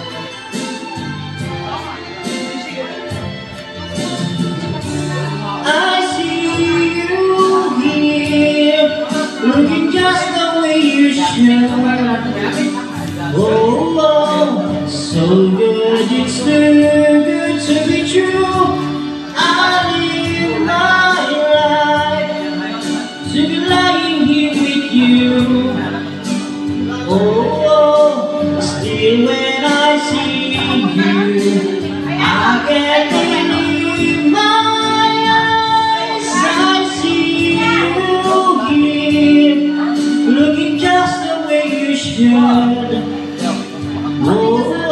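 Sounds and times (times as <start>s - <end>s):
instrumental accompaniment: 0.0s - 44.9s
man singing into a microphone: 0.0s - 44.9s.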